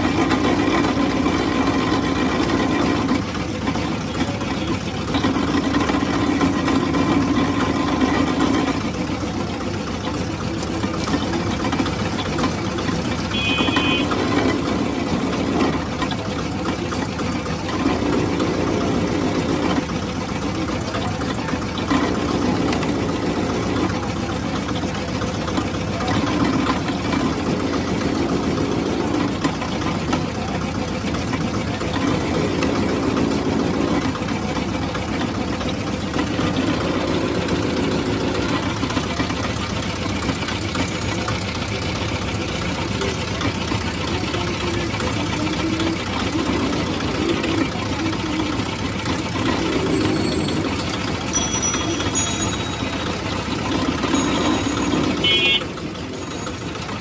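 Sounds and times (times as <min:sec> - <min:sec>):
juice crusher running: 0:00.0 - 0:57.0.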